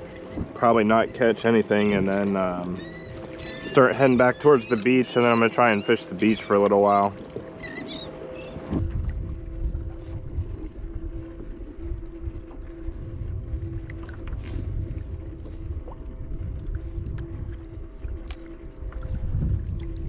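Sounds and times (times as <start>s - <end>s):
wind buffeting microphone: 0.0s - 7.2s, 8.0s - 20.0s
faint steady hum: 0.0s - 20.0s
waves slapping kayak hull: 0.0s - 20.0s.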